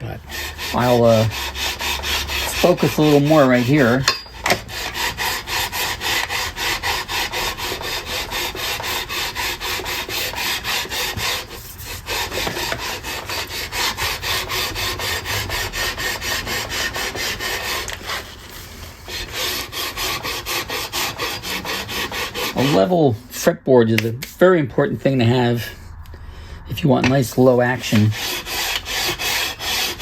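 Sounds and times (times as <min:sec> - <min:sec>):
sanding strokes on guitar fretboard: 0:00.0 - 0:23.5, 0:27.1 - 0:30.0.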